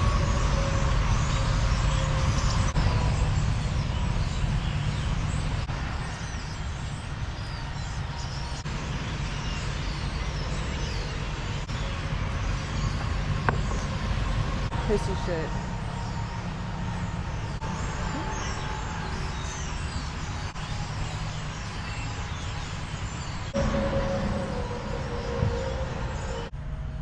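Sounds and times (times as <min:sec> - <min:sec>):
car engine and tyre rumble: 0:00.0 - 0:27.0
road and wind noise: 0:00.0 - 0:27.0.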